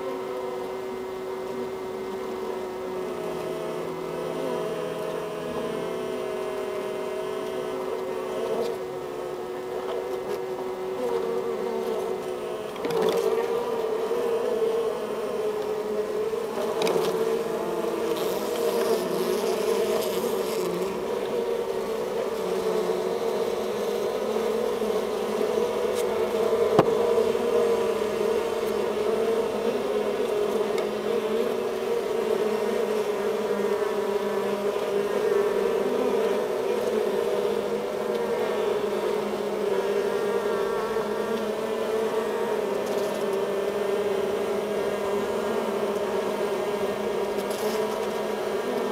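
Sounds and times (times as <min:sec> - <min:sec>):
bees humming in hive: 0:00.0 - 0:48.9.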